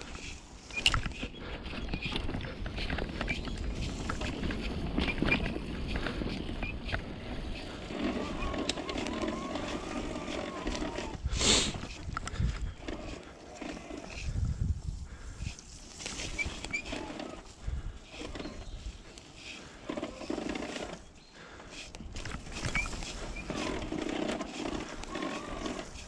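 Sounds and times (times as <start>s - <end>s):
e-bike drive growling: 0.0s - 26.0s
rumbling and rattling over bumps: 0.0s - 26.0s.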